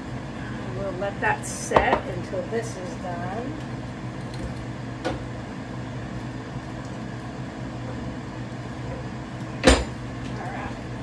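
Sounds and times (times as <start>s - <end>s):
air fryer fan hum: 0.0s - 11.0s.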